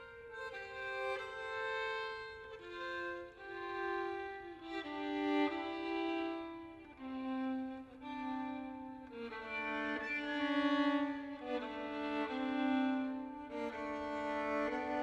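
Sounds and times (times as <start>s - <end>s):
solo violin bowing: 0.0s - 15.0s.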